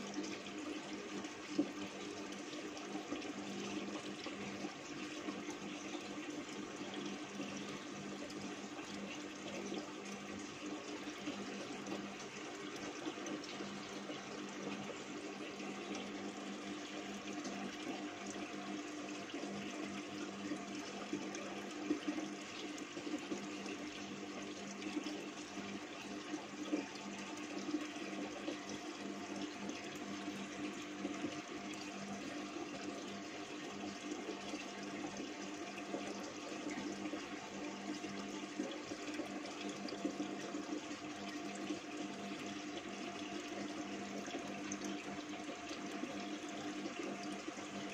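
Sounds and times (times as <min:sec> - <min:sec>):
water rushing in filter: 0:00.0 - 0:47.9.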